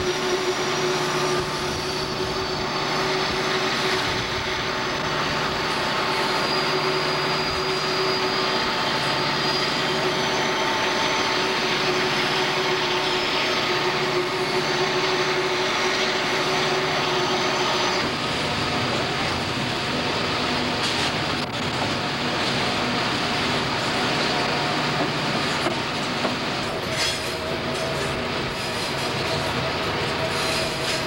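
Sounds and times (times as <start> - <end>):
high whine: 0.0 - 31.0
locomotive engine drone: 0.0 - 31.0
wheel and rail noise: 0.0 - 31.0.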